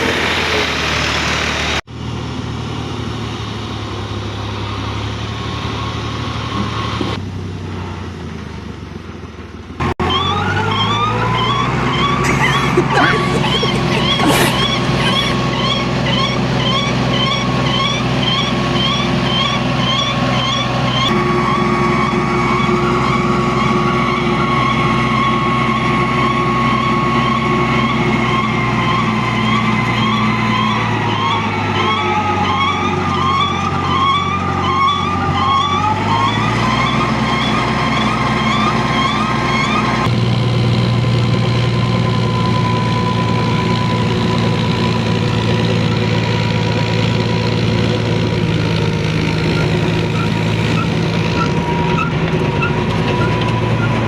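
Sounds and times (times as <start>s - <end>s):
tractor engine whining: 0.0s - 54.0s.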